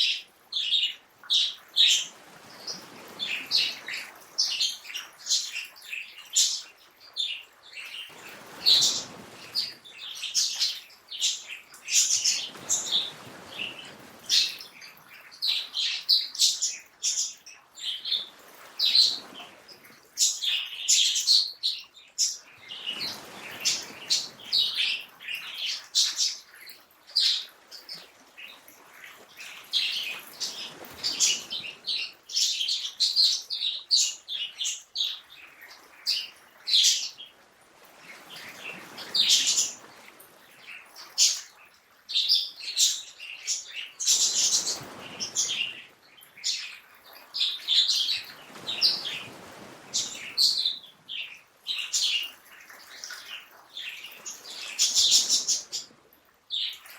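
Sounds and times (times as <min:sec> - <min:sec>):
small birds chirping: 0:00.0 - 0:37.4, 0:38.0 - 0:56.9.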